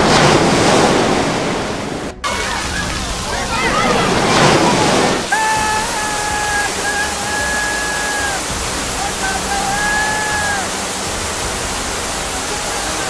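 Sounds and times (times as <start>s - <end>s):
floodwater torrent roaring: 0.0s - 13.0s.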